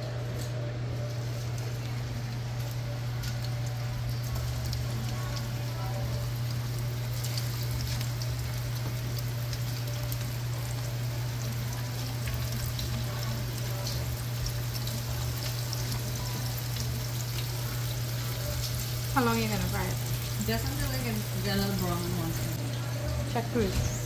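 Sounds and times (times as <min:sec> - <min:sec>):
fish sizzling in hot oil: 0:01.1 - 0:24.0.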